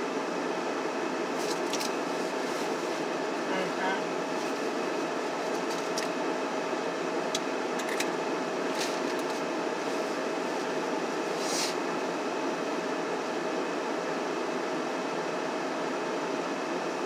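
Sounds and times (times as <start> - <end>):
car heater fan rushing: 0.0 - 17.0
faint steady hum: 0.0 - 17.0.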